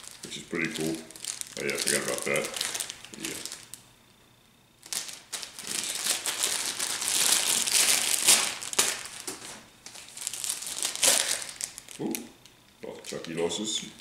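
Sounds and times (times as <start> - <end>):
plastic bag crinkling: 0.0 - 3.8, 4.8 - 14.0.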